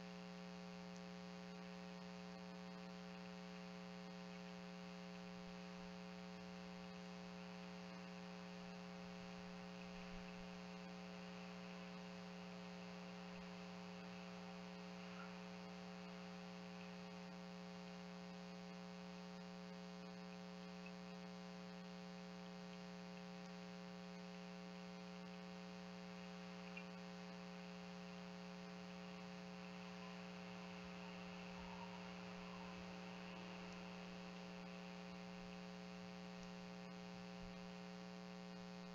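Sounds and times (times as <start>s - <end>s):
tiny faint ticks: 0.0s - 8.4s, 9.4s - 37.8s
faint electrical hum: 0.0s - 38.9s
light hiss: 0.0s - 38.9s.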